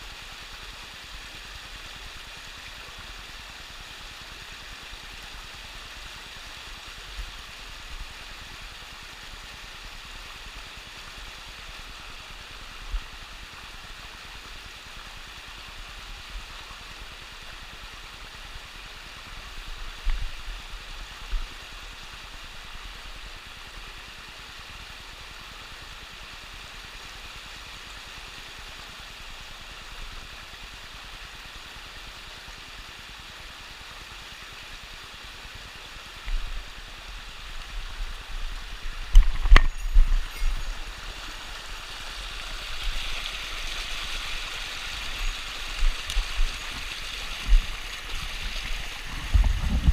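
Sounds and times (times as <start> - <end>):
stream rushing over rocks: 0.0 - 49.9.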